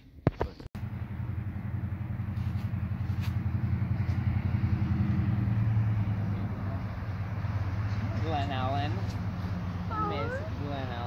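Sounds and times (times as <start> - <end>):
engine running with low throb: 0.8 - 11.0.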